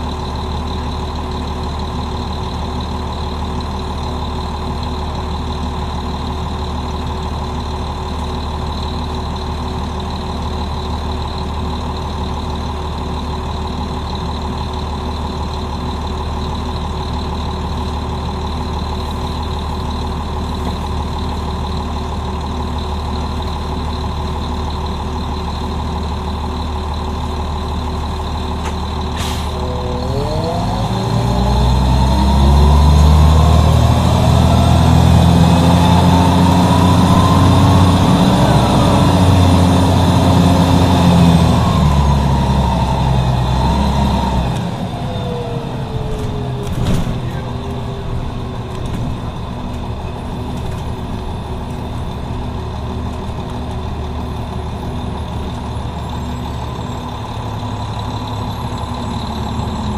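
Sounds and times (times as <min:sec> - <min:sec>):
bus diesel engine idling: 0:00.0 - 0:59.9
bus engine revving and accelerating: 0:00.0 - 0:59.9.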